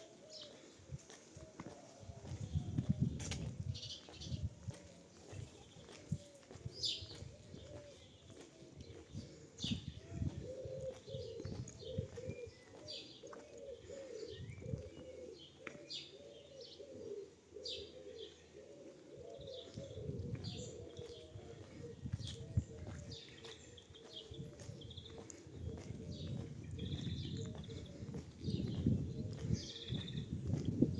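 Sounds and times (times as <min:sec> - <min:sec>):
pigeons cooing: 0:00.0 - 0:30.9
small birds chirping: 0:01.6 - 0:30.9.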